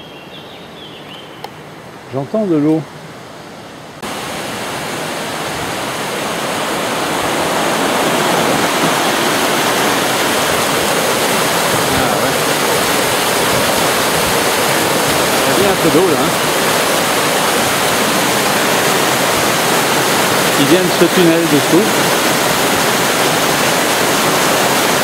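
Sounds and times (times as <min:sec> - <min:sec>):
water rushing down rocky channel: 0:04.0 - 0:25.0.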